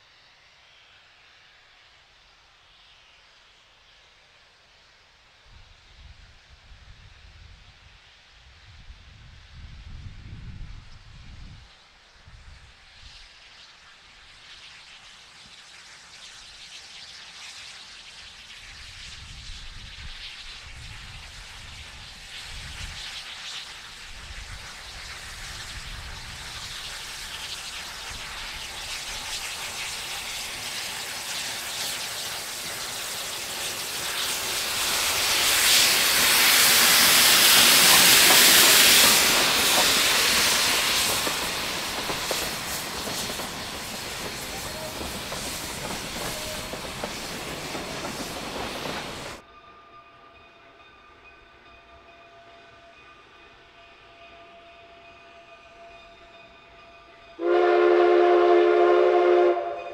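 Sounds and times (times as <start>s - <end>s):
steam locomotive passing: 0.0s - 59.9s.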